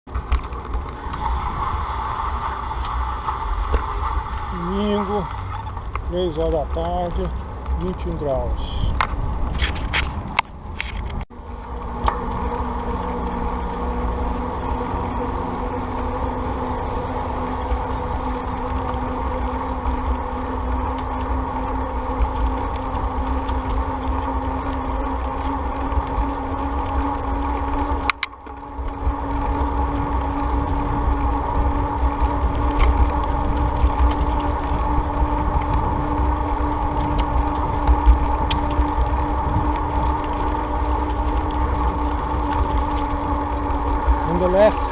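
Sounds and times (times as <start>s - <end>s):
steady hum rising in pitch: 0.1s - 44.9s
wind rushing over microphone: 0.1s - 44.9s.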